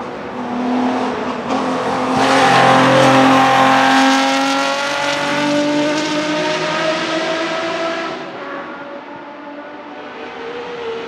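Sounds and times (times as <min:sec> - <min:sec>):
racing car engines passing: 0:00.0 - 0:11.0.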